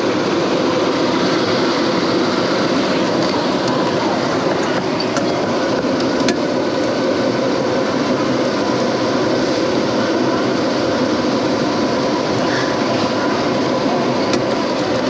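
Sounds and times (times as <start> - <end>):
small boat motor droning: 0.0 - 15.0.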